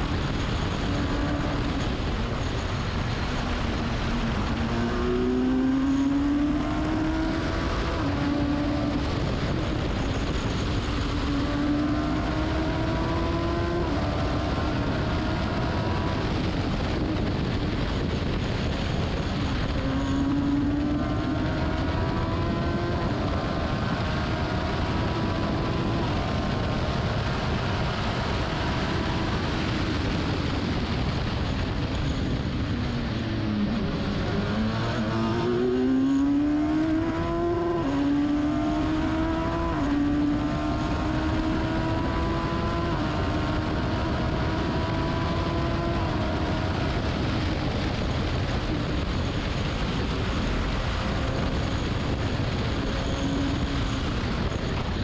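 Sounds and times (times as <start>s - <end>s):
race car engine revving: 0.0s - 55.0s
wind and road noise: 0.0s - 55.0s.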